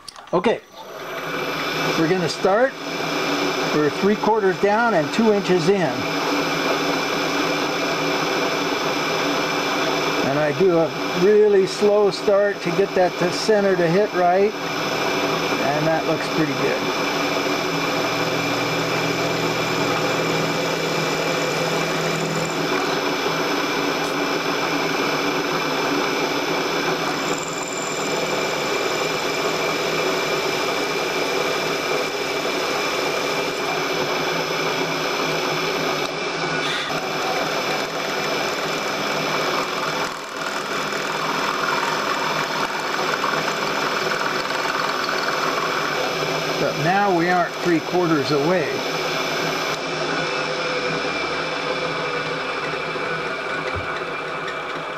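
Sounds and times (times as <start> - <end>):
milling machine spindle humming: 0.1 - 54.9
drill cutting into metal: 0.9 - 54.9.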